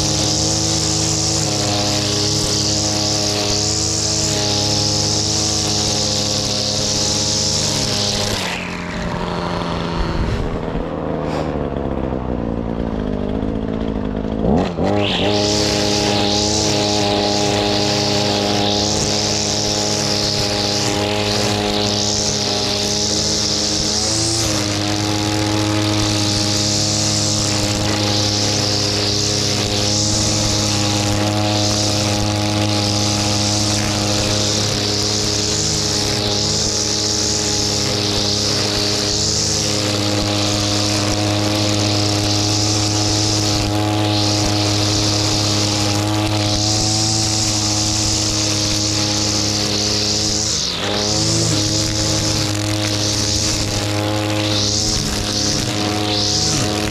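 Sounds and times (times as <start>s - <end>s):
brushcutter running: 0.0s - 56.9s
nylon line cutting grass: 0.0s - 56.9s.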